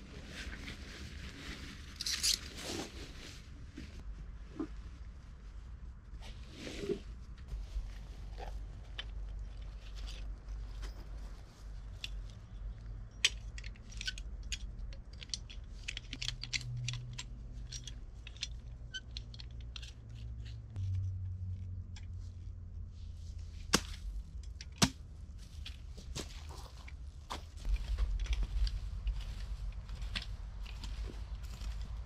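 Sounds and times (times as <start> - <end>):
low steady rumble: 0.0 - 32.0
gear clicks and rustles: 0.2 - 4.0, 7.3 - 22.5, 23.2 - 32.0.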